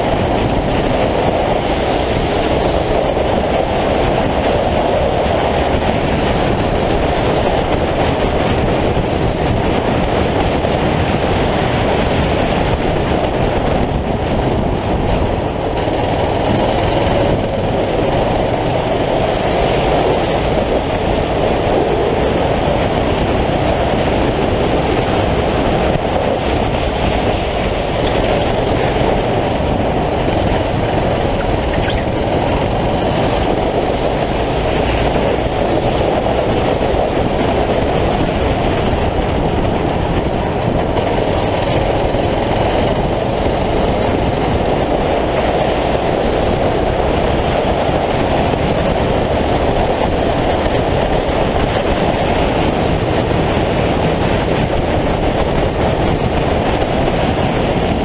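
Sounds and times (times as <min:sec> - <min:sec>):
kart engine rumble: 0:00.0 - 0:58.0
wind rush: 0:00.0 - 0:58.0.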